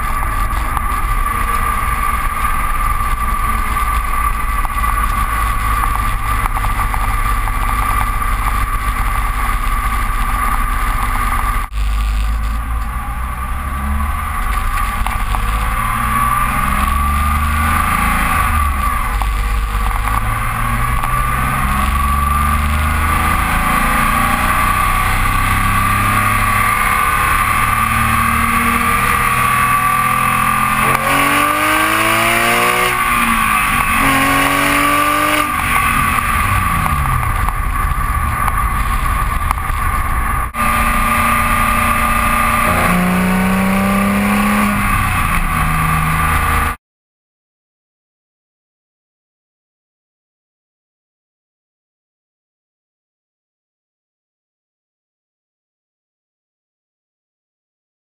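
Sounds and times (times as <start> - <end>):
car engine driving: 0.0 - 46.8
road noise: 0.0 - 46.8
wind noise: 0.0 - 46.8.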